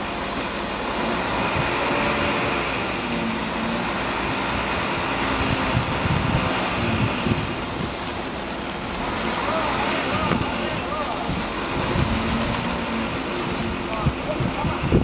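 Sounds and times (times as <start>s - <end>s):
crane mechanical hum: 0.0s - 15.0s
truck engine running: 0.0s - 15.0s.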